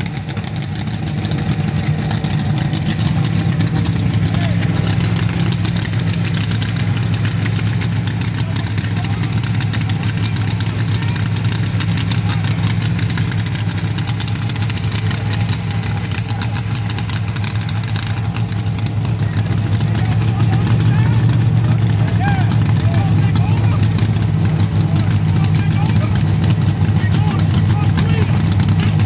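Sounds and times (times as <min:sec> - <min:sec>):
dragster engine idling: 0:00.0 - 0:29.0.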